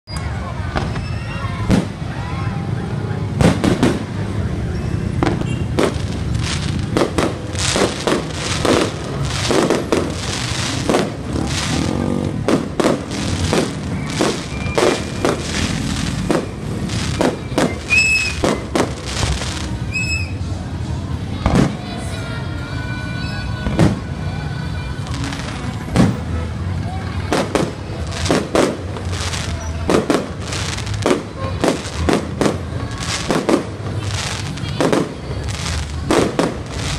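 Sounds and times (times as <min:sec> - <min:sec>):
fireworks bursting: 0:00.1 - 0:02.6, 0:03.2 - 0:22.2, 0:23.2 - 0:36.9.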